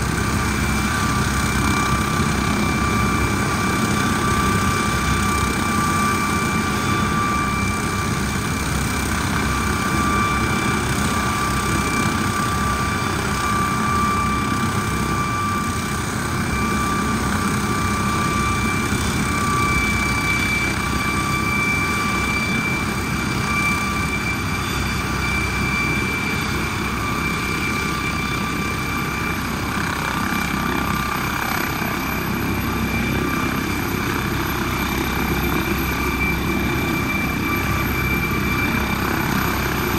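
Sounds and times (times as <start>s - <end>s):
helicopter engines whining: 0.0s - 39.9s.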